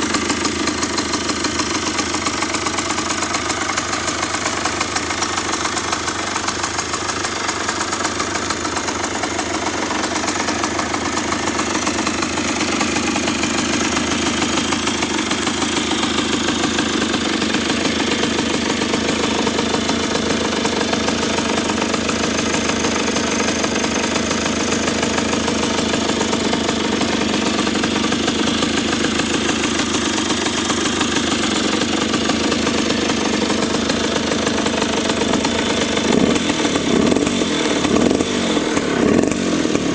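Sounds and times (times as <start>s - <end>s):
two-stroke motorcycle engine idling: 0.0s - 39.9s.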